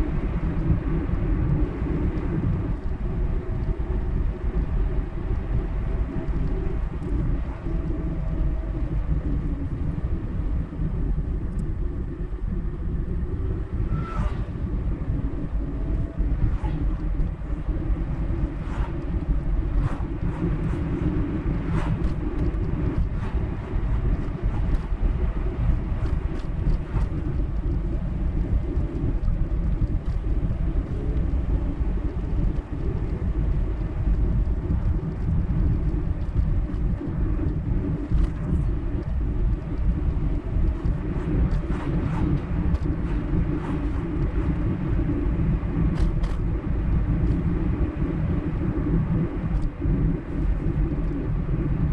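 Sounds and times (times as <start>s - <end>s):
road and engine rumble: 0.0s - 51.9s.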